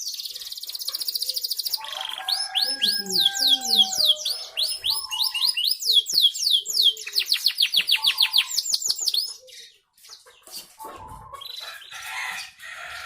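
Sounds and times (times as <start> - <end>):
canary singing trill: 0.0 - 13.0.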